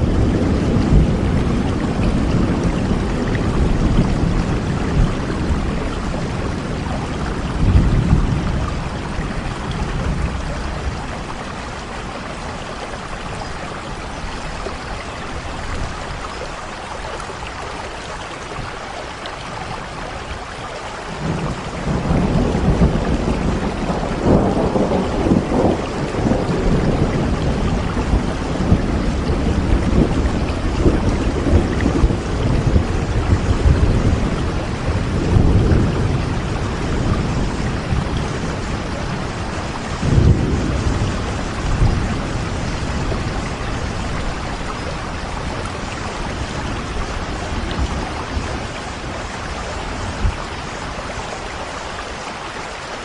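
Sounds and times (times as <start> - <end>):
rolling thunder: 0.0 - 16.3, 21.1 - 51.4
steady rain falling: 0.0 - 53.0.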